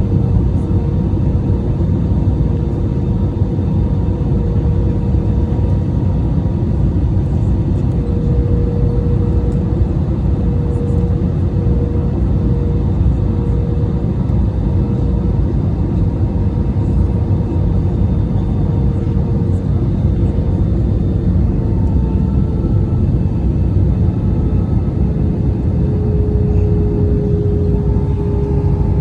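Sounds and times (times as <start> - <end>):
airliner cabin airflow rumble: 0.0 - 29.0
jet engine hum: 0.0 - 29.0.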